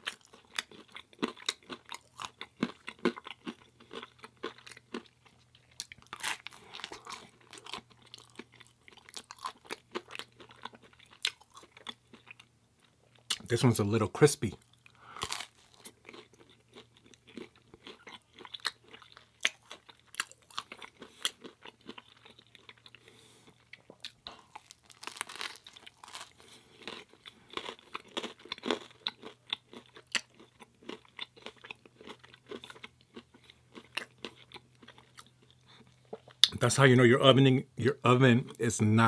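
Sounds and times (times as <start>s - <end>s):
chewing crispy crust: 0.0s - 13.4s, 14.5s - 36.6s.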